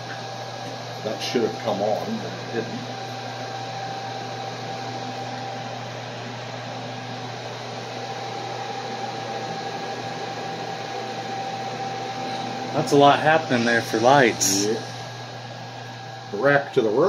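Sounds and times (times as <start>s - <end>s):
cooling fans whirring: 0.0s - 17.0s
electrical hum: 0.0s - 17.0s
thin steady whine: 0.0s - 17.0s.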